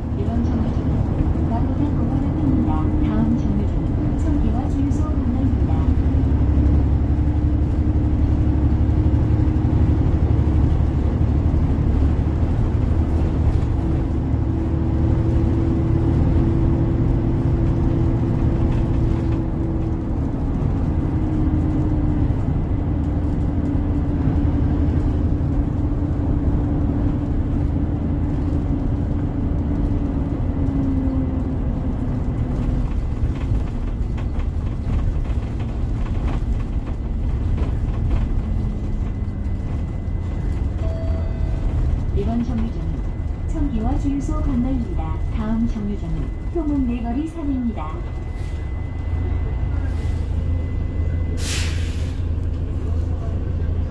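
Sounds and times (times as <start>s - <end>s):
bus engine droning with whine: 0.0s - 53.9s.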